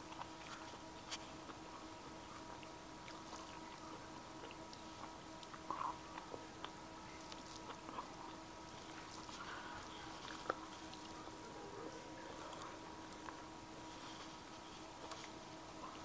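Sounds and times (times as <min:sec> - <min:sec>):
faint steady hum: 0:00.0 - 0:16.0
soft chewing: 0:00.0 - 0:16.0.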